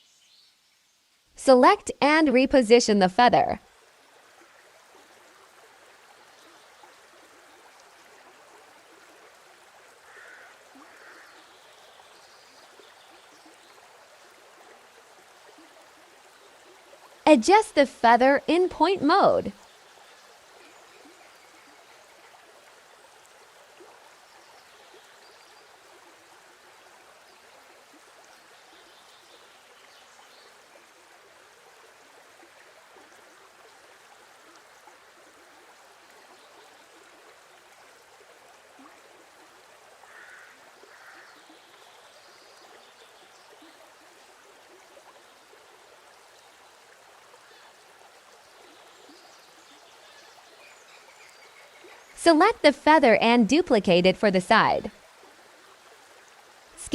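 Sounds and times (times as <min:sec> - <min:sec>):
stream running water: 0:00.0 - 0:56.9.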